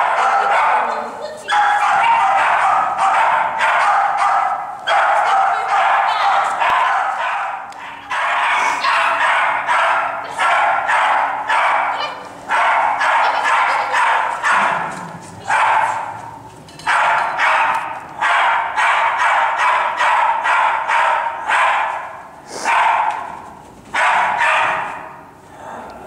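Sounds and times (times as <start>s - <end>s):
small dog barking: 0.0s - 23.3s, 24.0s - 25.2s.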